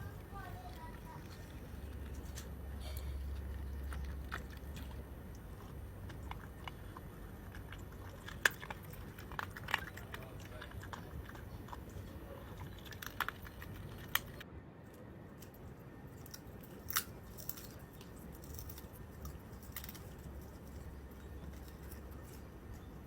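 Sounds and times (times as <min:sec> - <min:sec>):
chewing and biting food: 0:00.0 - 0:14.4, 0:15.4 - 0:23.0.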